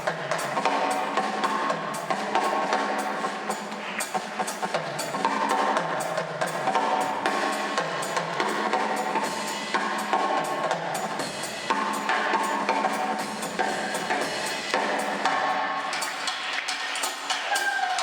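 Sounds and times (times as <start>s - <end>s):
drum kit beating: 0.0s - 18.0s.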